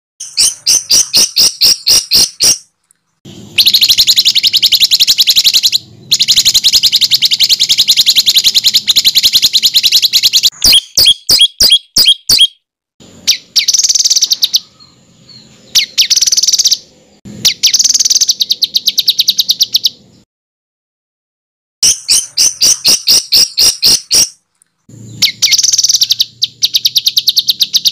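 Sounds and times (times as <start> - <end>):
songbird rapid harsh song: 0.2 - 20.2, 21.8 - 27.9.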